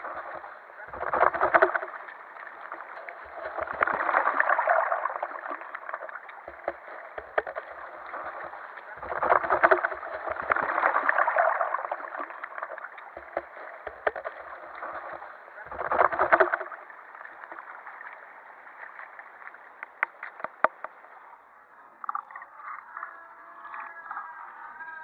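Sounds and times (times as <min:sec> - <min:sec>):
river water gurgling and splashing: 0:00.0 - 0:23.1.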